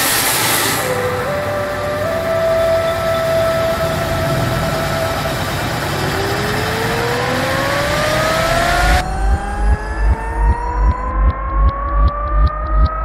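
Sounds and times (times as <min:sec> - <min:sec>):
motor vehicle whine rising in pitch: 0:00.0 - 0:13.0
rushing noise: 0:00.0 - 0:13.0.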